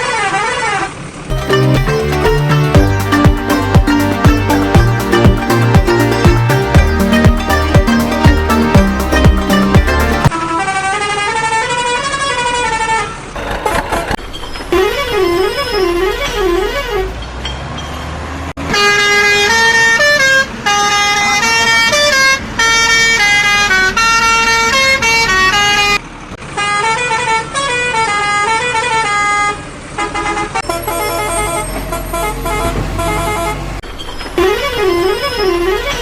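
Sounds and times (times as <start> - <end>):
musical vehicle horn: 0.2 - 13.2, 14.8 - 17.2, 18.6 - 26.0, 26.6 - 33.8, 34.4 - 36.0.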